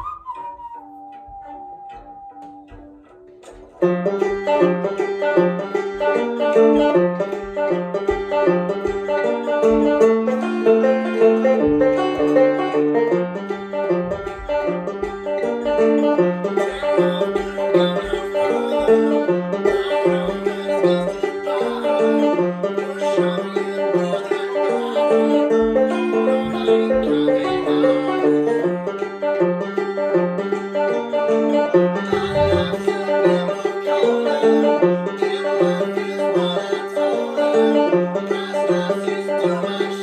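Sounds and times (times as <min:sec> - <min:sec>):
banjo picking a fast rolling tune: 0:00.0 - 0:40.0.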